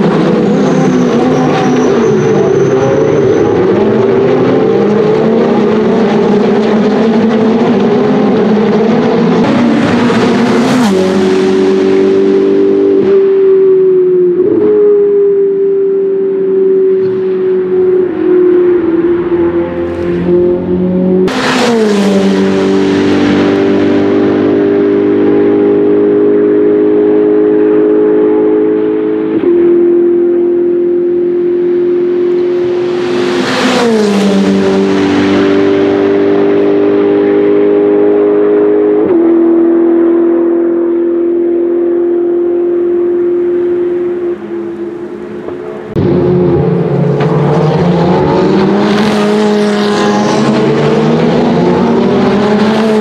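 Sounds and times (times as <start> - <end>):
race car engines: 0.0 - 53.0.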